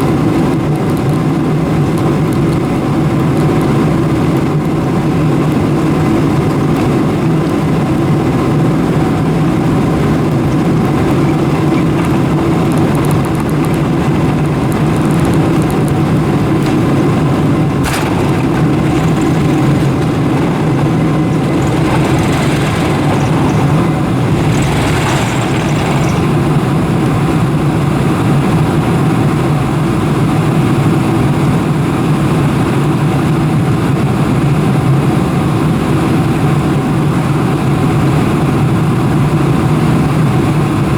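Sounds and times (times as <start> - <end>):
jet engines humming in cabin: 0.0 - 40.9.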